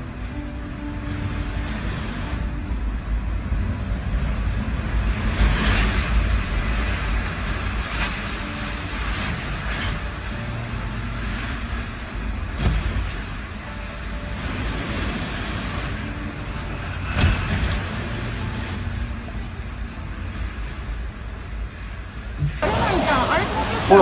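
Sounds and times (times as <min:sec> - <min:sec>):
strong wind gusts on microphone: 0:00.0 - 0:24.0.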